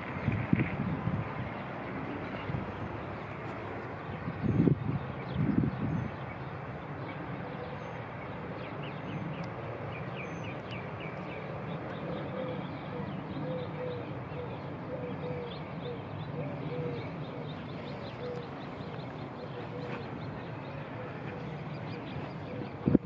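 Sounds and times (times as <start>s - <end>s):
birds chirping: 0.0s - 23.0s
low background noise: 0.0s - 23.0s.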